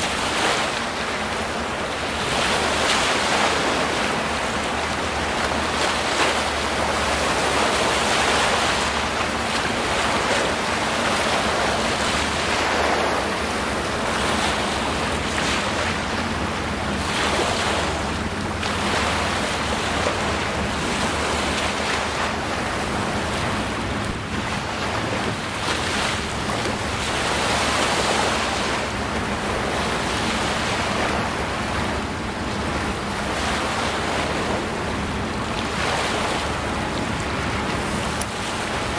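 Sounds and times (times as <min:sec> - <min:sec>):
small waves washing onto shore: 0:00.0 - 0:38.9.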